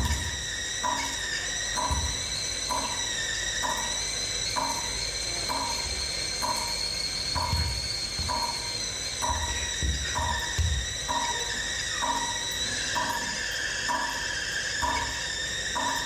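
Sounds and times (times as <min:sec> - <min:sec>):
high ringing tones: 0:00.0 - 0:16.0.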